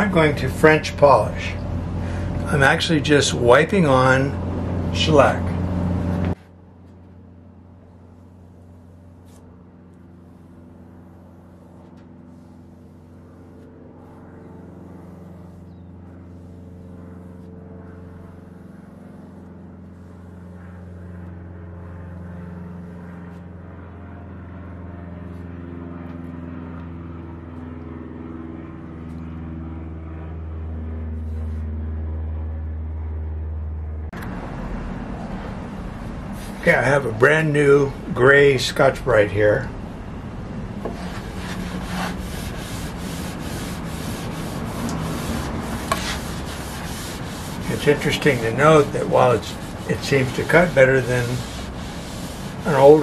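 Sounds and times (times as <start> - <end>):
low motor drone with wavering tones: 0.0 - 53.0.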